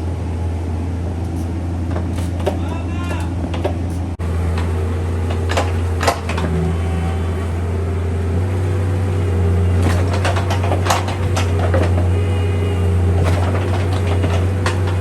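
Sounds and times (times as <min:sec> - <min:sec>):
excavator diesel engine running: 0:00.0 - 0:15.0
machine knocks and clanks: 0:01.3 - 0:07.8, 0:08.4 - 0:15.0.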